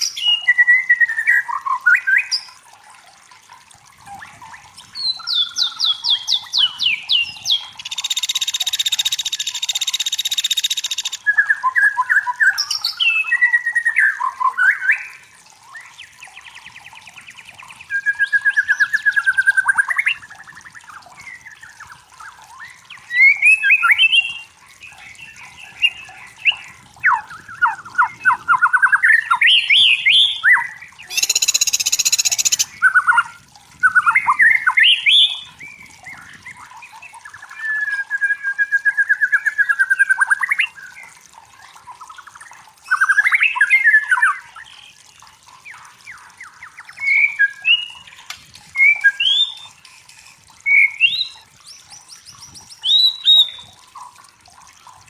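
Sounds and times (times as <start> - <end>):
bird singing whistles and trills: 0.0 - 2.6, 4.2 - 41.1, 45.7 - 49.9, 50.6 - 53.8.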